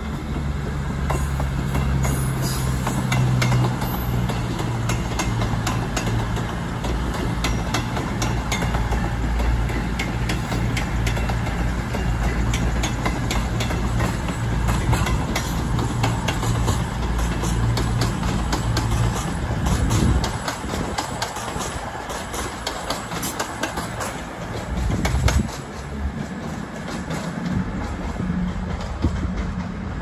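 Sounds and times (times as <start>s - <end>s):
diesel train engine drone: 0.0s - 30.0s
wheels clicking over rail joints: 0.0s - 30.0s.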